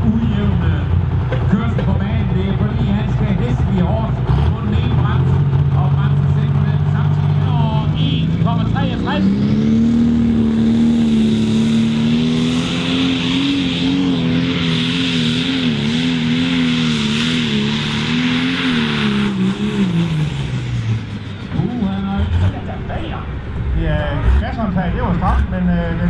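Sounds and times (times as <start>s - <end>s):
tractor diesel engine at full throttle: 0.0s - 26.0s.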